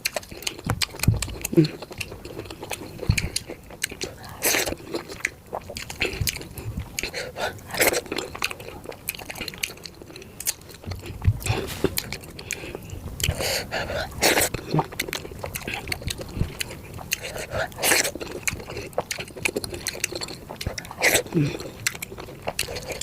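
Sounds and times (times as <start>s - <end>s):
person chewing and crunching food: 0.0s - 23.0s.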